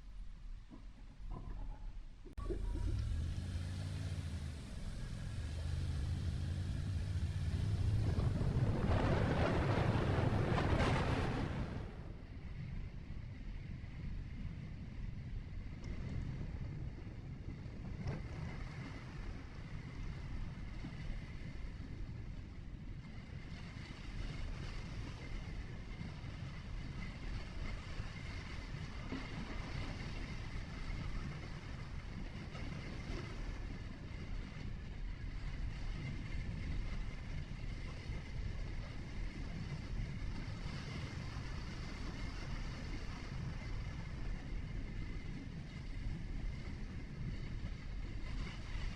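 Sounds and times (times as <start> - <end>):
engine and road rumble: 0.0 - 48.9
tyre and wind noise: 0.0 - 48.9.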